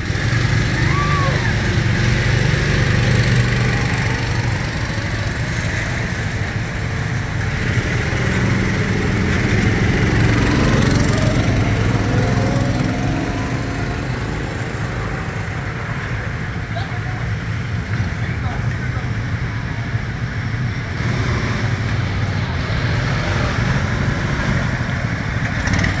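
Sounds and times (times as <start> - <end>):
go-kart engines droning: 0.0 - 26.0.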